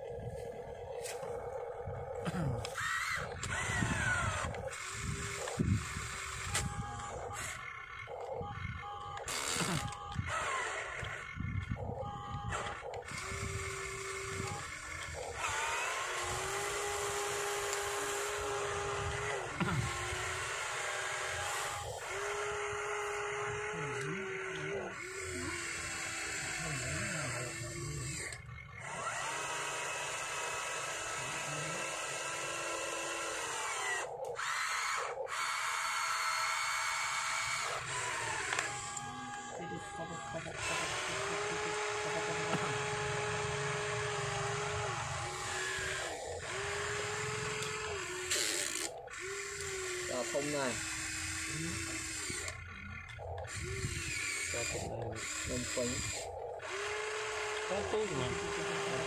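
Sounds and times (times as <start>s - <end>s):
toy excavator electric motors whining: 0.0s - 59.0s.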